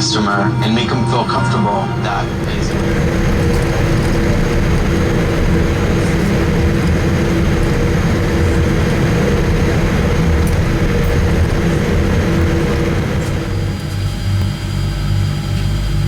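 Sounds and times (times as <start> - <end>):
steady two-note hum: 0.0 - 15.2
jet engine cabin rumble: 0.0 - 16.0.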